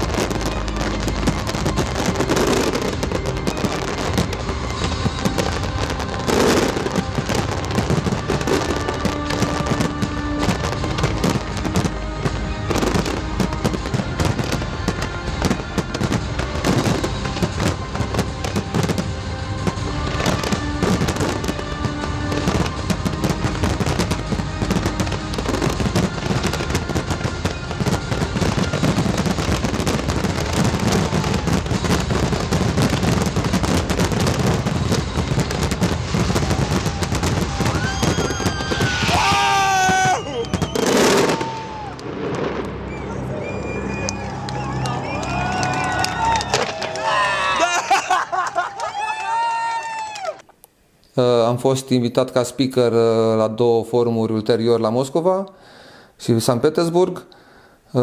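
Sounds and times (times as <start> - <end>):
music playing: 0.0 - 49.5.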